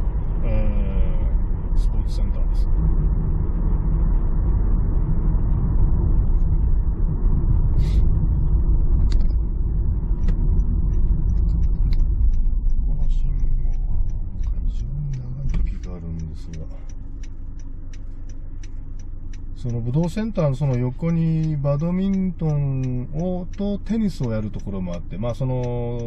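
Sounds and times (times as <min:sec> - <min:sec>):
car interior road noise: 0:00.0 - 0:26.0.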